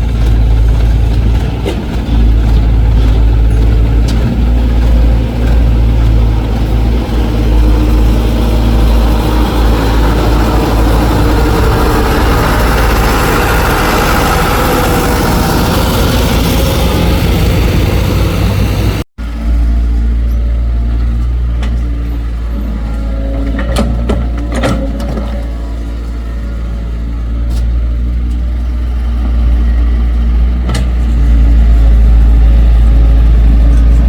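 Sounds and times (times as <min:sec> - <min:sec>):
excavator diesel engine droning: 0:00.0 - 0:34.0
harsh machine working noise: 0:00.0 - 0:34.0.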